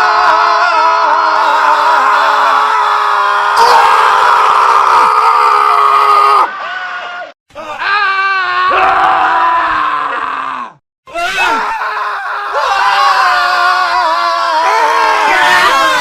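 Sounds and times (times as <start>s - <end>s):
men screaming: 0.0s - 16.0s.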